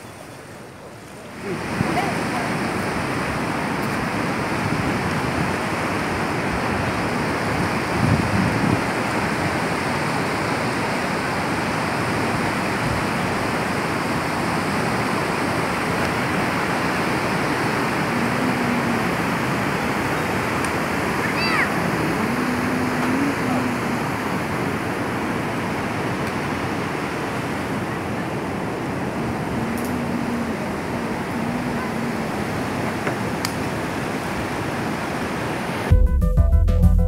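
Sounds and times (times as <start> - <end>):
ocean surf breaking: 0.0 - 35.9.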